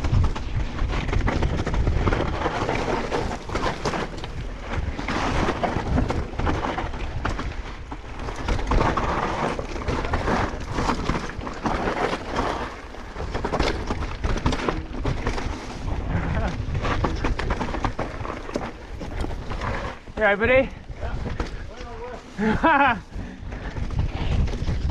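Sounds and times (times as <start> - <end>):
bike clattering and rattling: 0.0 - 24.9
wind rumbling on microphone: 0.0 - 24.9
tyres rolling over dirt and rock: 0.1 - 24.9.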